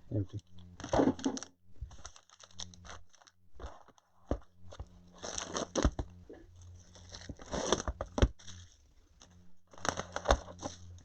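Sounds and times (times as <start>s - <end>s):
steady low hum: 0.0s - 11.0s
cardboard and wrappers crinkling: 0.6s - 11.0s.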